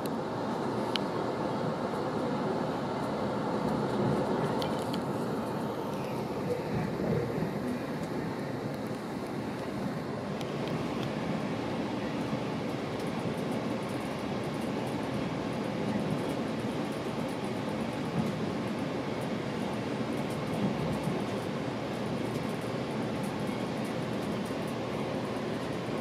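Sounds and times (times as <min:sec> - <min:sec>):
train rolling along track: 0:00.0 - 0:26.0.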